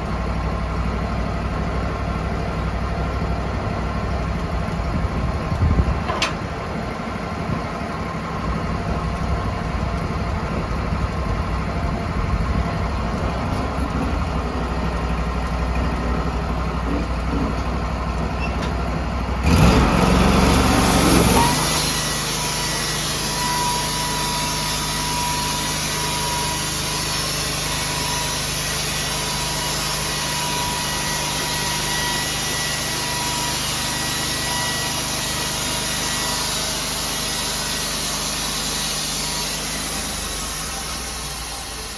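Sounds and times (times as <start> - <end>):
sawmill engine running: 0.0 - 41.9
thin machine whine: 7.2 - 41.9.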